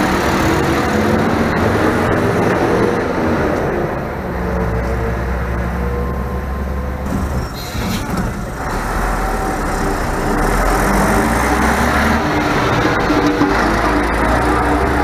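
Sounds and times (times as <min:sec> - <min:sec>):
bus diesel engine passing by: 0:00.0 - 0:15.0.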